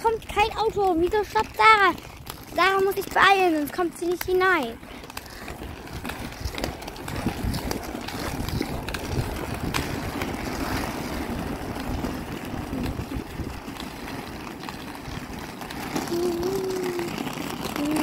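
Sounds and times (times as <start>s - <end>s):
skate wheels rolling on asphalt: 0.0s - 18.0s.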